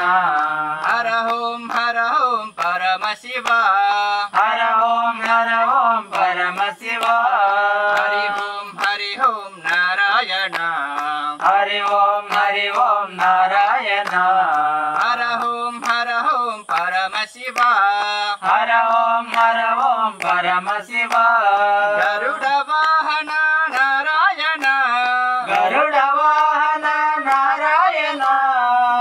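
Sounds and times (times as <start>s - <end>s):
group chanting: 0.0s - 29.0s
hand claps: 0.0s - 29.0s.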